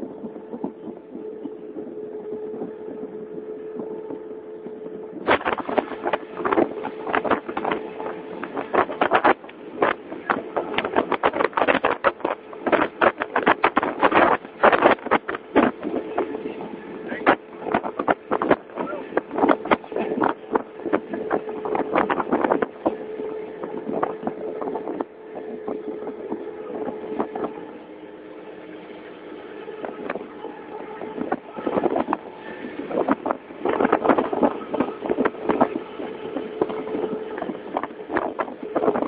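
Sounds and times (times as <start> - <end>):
boat engine running: 0.0 - 39.0
wind buffeting microphone: 0.0 - 39.0.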